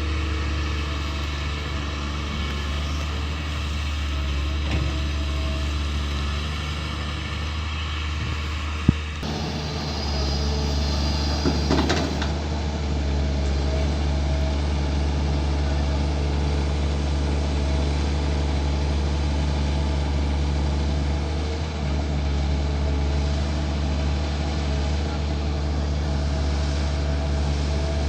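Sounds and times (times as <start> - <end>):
excavator diesel engine: 0.0 - 28.0.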